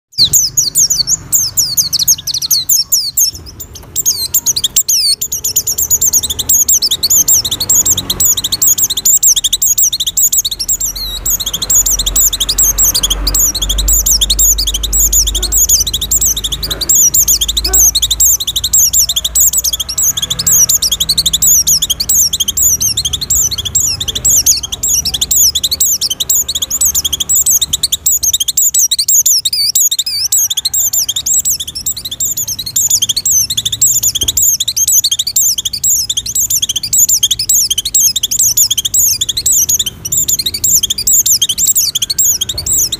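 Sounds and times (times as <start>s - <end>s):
bird chirping and trilling: 0.0s - 42.9s.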